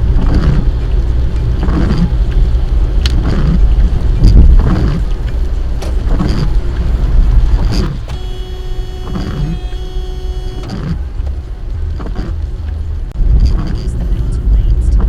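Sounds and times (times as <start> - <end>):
steady pitched tone: 0.0 - 13.6
tyres on wet road: 0.0 - 15.0
water swishing: 0.0 - 15.0.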